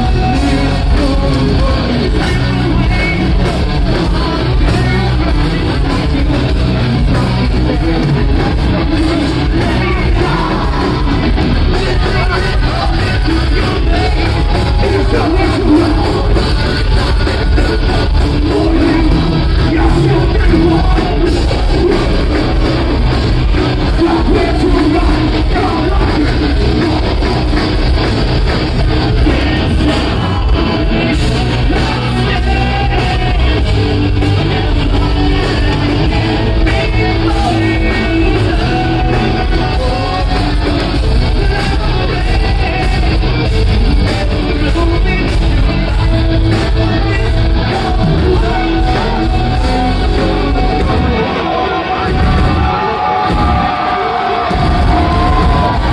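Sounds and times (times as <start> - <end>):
live rock band playing: 0.0 - 55.9
person singing: 0.0 - 55.9.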